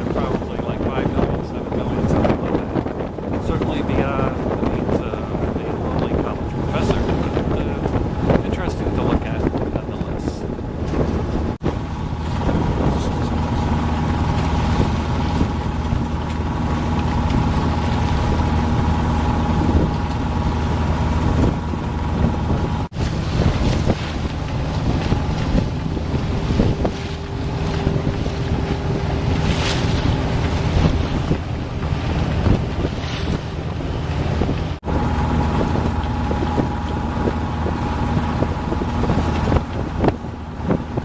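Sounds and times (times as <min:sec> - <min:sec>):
steady low hum: 0:00.0 - 0:41.0
water noise from sailboat: 0:00.0 - 0:41.0
wind buffeting microphone: 0:00.0 - 0:41.0.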